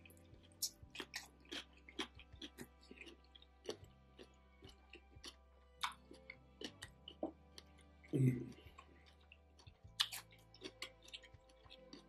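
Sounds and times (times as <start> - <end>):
wet chewing mouth sounds: 0.0 - 12.0.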